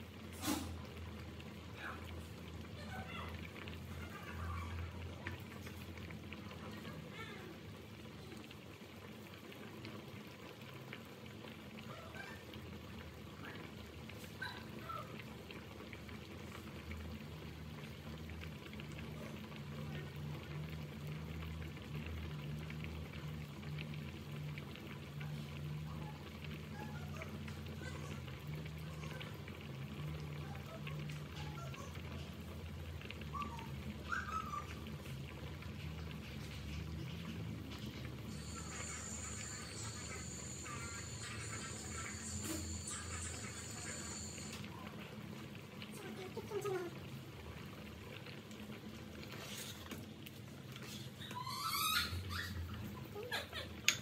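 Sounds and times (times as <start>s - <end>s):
water boiling in a pot: 0.0s - 54.0s.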